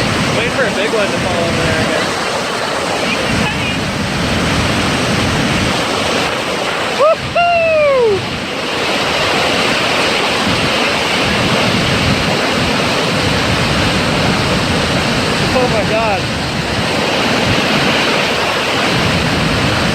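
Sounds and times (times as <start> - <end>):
rush of falling water: 0.0 - 19.9.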